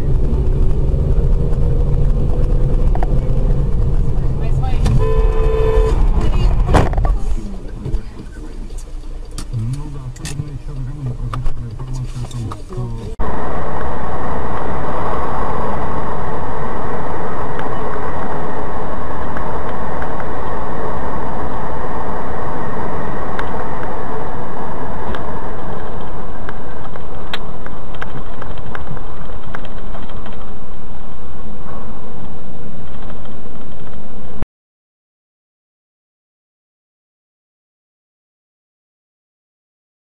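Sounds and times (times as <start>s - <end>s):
car road and engine noise: 0.0s - 34.4s.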